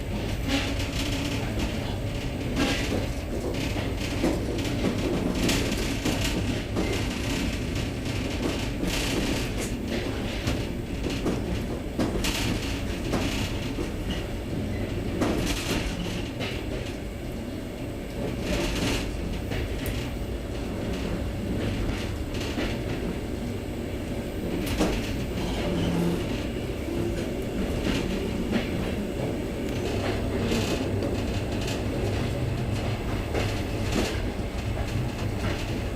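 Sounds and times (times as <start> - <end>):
train clicks and knocks: 0.0 - 35.9
train rumble inside carriage: 0.0 - 35.9.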